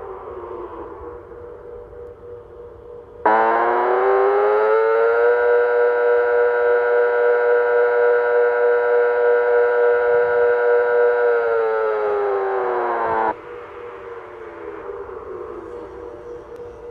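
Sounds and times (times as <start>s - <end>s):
siren wail: 0.0s - 16.9s.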